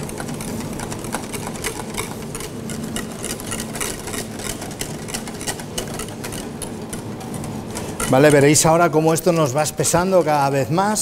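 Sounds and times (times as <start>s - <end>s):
whisk ticking against metal pan: 0.0s - 11.0s.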